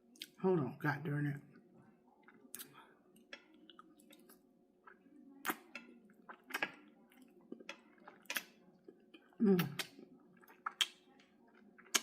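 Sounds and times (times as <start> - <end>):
person chewing food: 1.5 - 12.0.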